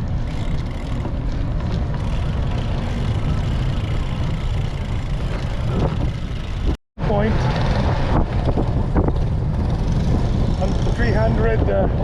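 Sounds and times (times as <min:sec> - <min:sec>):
road rumble: 0:00.0 - 0:12.0
wind buffeting microphone: 0:00.0 - 0:12.0.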